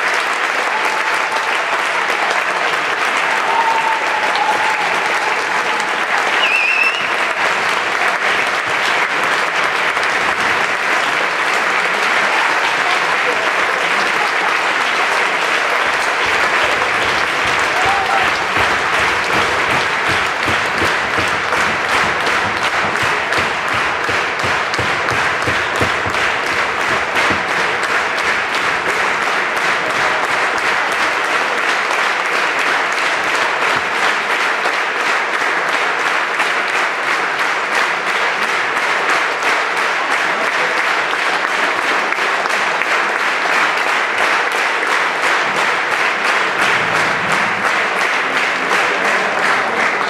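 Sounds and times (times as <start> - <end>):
audience applauding: 0.0 - 50.0.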